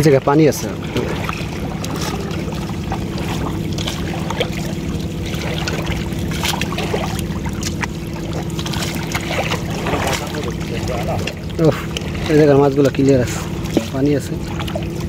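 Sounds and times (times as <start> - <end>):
low engine hum: 0.0 - 15.0
fish flapping and splashing: 0.6 - 15.0.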